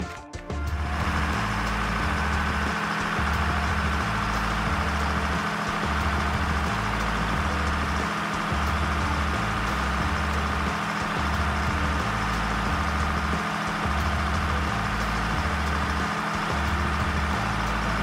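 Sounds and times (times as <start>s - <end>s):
heavy truck engine drone: 0.6s - 18.0s.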